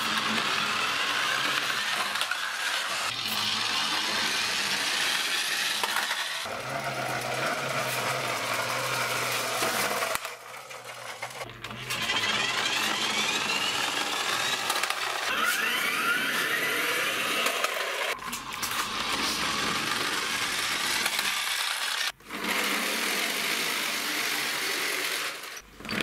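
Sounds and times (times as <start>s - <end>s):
small gear motors whirring: 0.0s - 26.0s
toy trucks rolling: 0.0s - 26.0s.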